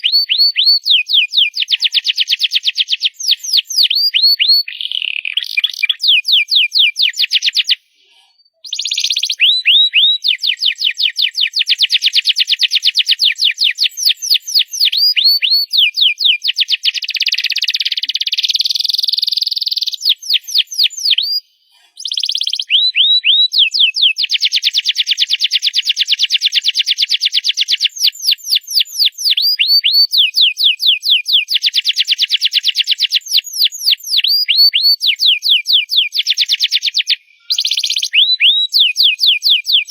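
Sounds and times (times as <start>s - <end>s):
canary singing: 0.0s - 25.8s, 26.5s - 39.9s.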